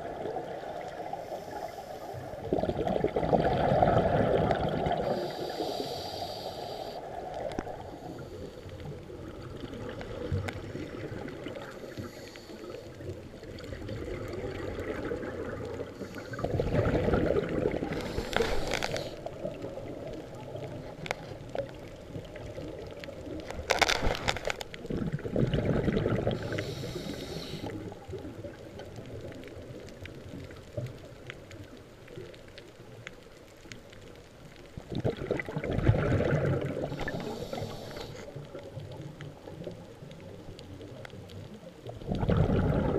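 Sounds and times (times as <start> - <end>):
scuba regulator exhaust bubbles: 0.0 - 23.6, 24.8 - 30.2, 34.8 - 41.3, 41.9 - 42.9
underwater rush of water: 0.0 - 42.9.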